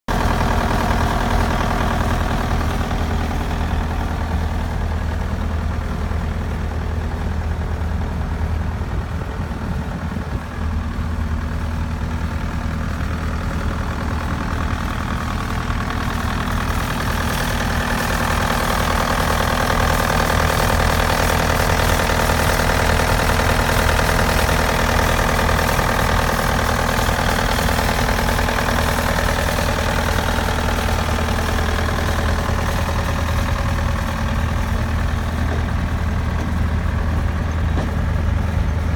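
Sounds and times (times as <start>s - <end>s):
diesel engine running: 0.1s - 38.9s.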